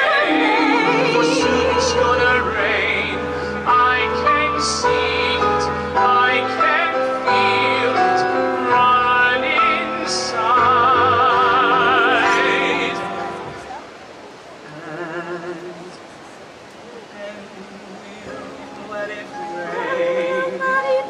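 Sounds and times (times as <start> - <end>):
woman and man singing duet: 0.0 - 13.5, 14.7 - 16.0, 17.1 - 21.0.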